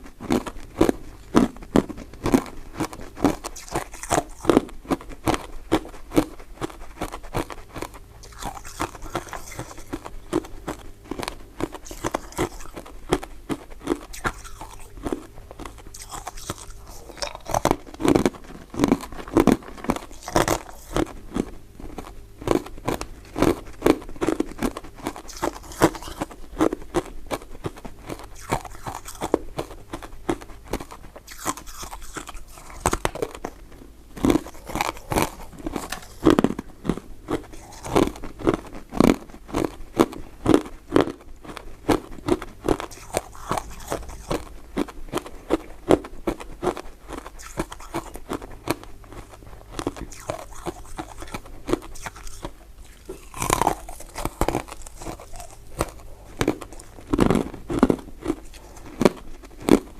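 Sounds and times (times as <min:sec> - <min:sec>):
chewing candies: 0:00.0 - 0:59.9
sharp mouth clicks: 0:00.2 - 0:33.6, 0:34.2 - 0:40.2, 0:40.9 - 0:59.9.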